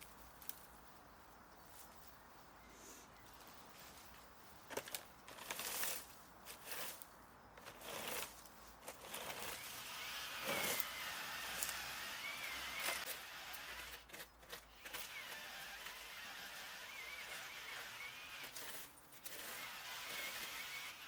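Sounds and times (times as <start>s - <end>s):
branches and dry leaves rustling: 0.0s - 21.0s.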